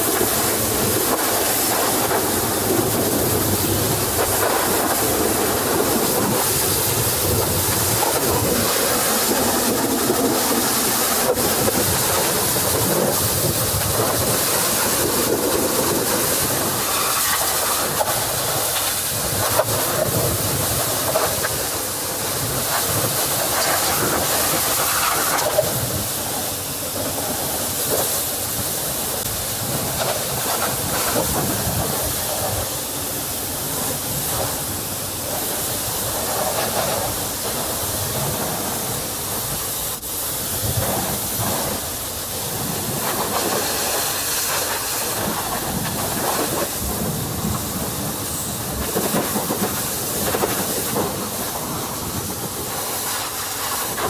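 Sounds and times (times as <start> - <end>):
pressure washer spray hissing: 0.0 - 54.0.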